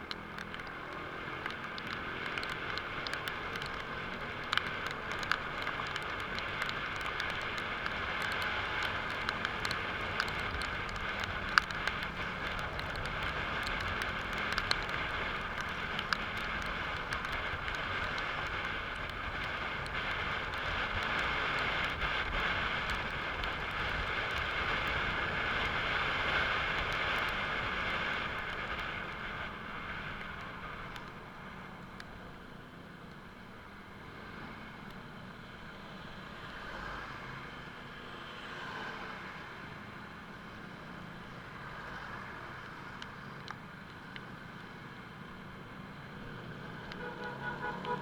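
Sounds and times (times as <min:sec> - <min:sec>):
raindrops ticking: 0:00.0 - 0:48.0
steady rain: 0:00.0 - 0:48.0.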